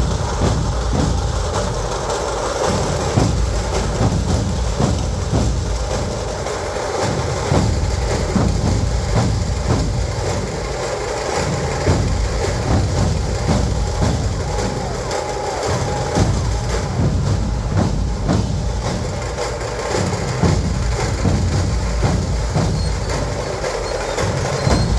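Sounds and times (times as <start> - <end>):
drums beaten in steady rhythm: 0.0 - 24.9.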